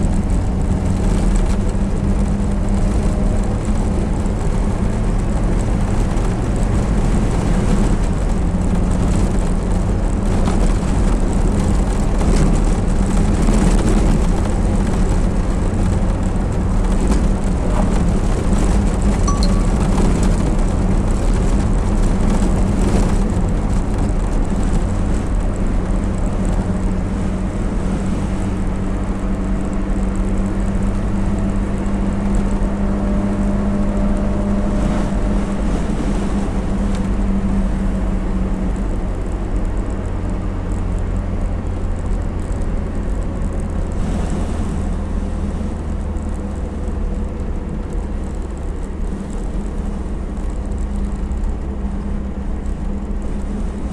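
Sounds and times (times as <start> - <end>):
road noise: 0.0 - 53.9
van engine running: 0.0 - 53.9.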